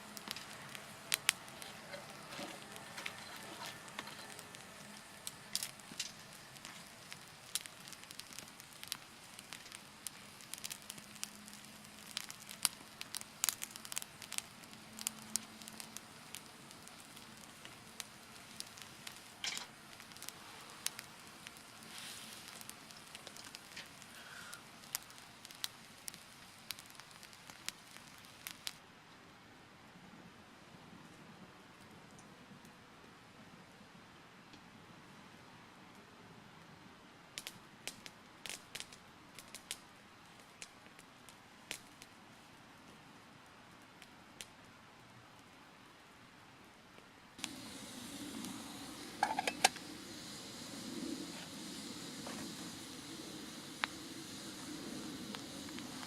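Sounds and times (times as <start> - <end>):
campfire crackling: 0.0 - 28.8, 36.7 - 56.0
low steady hiss: 0.0 - 56.0.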